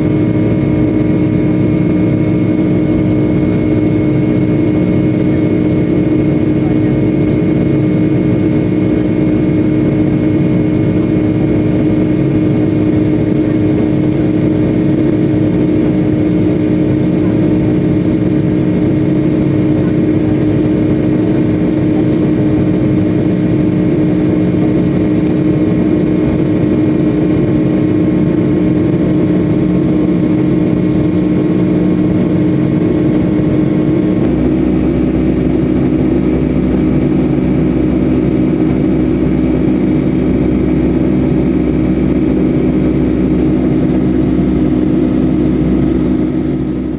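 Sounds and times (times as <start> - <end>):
jet engine drone in cabin: 0.0 - 46.9.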